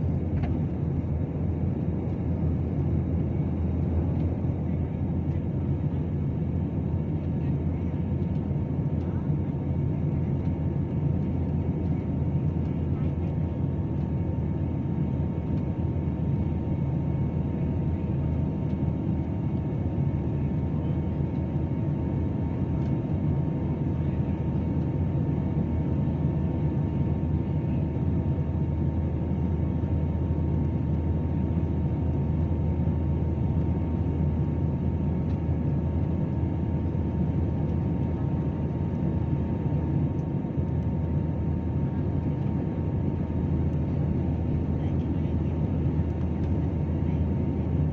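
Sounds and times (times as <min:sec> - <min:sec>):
airplane engine drone: 0:00.0 - 0:47.9
faint whine: 0:00.0 - 0:47.9.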